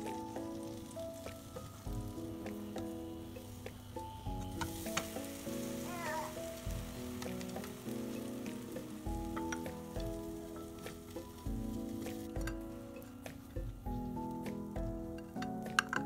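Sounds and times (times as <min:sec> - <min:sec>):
bread sizzling in a frying pan: 0:00.0 - 0:15.7
background music: 0:00.0 - 0:16.0.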